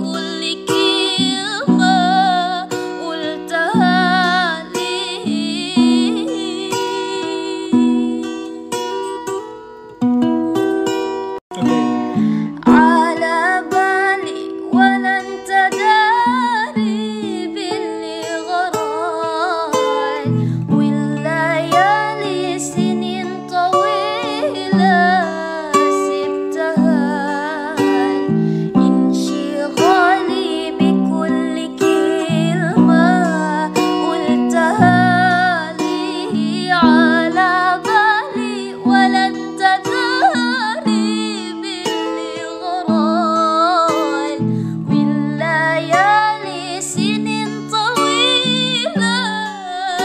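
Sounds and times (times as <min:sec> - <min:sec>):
person singing: 0:00.0 - 0:09.4, 0:10.3 - 0:50.0
plucked-string accompaniment: 0:00.0 - 0:50.0
wavering melody with vibrato: 0:00.0 - 0:50.0.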